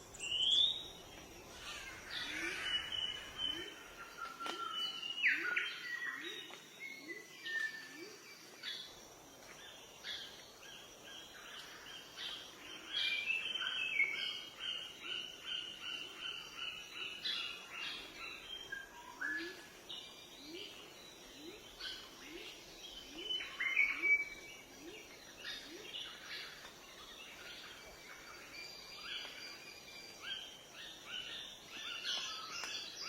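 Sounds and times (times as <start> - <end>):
birds singing: 0.0 - 33.0.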